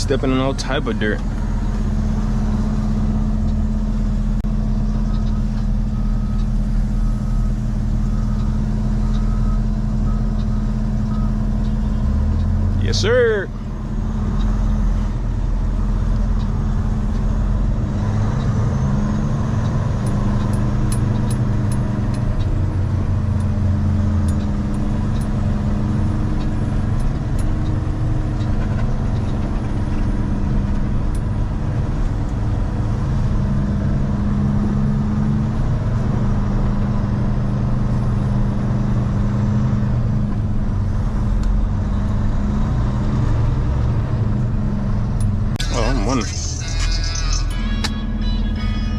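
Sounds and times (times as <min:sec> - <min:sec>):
truck diesel engine droning: 0:00.0 - 0:48.9.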